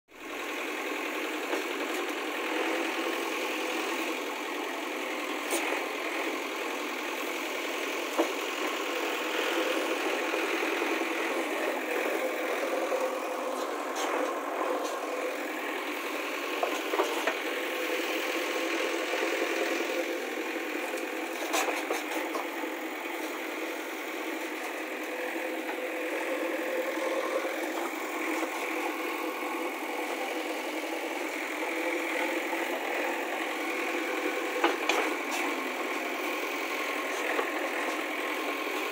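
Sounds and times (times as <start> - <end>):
diesel engine running under load: 0.1 - 38.9.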